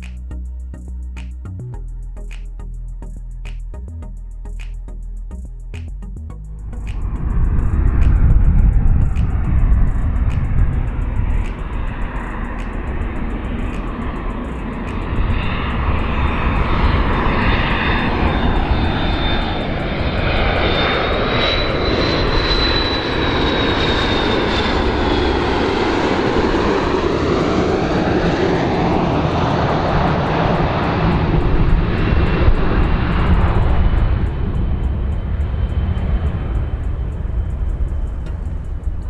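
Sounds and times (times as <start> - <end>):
jet airliner passing: 6.1 - 39.0.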